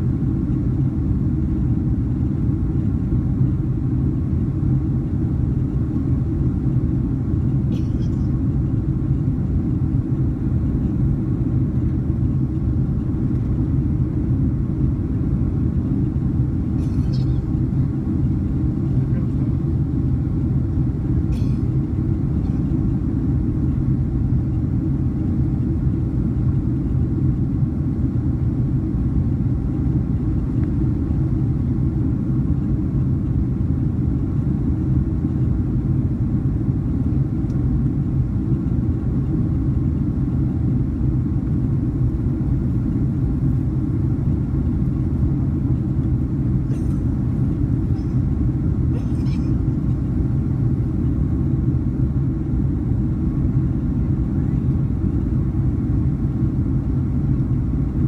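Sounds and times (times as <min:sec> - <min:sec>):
airplane cabin drone: 0:00.0 - 0:58.0.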